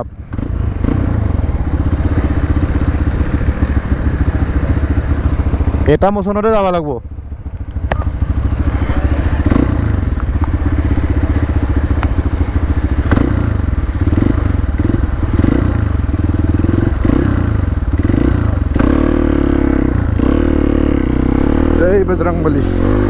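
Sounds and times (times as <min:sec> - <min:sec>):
knocks and clatter from motorcycle: 0:00.0 - 0:06.0, 0:07.0 - 0:21.8
motorcycle engine revving: 0:00.0 - 0:23.0.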